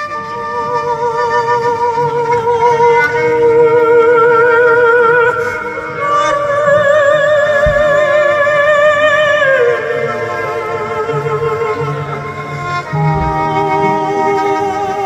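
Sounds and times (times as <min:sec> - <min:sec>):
held melodic notes with vibrato: 0:00.0 - 0:15.0
lower accompaniment: 0:00.0 - 0:15.0.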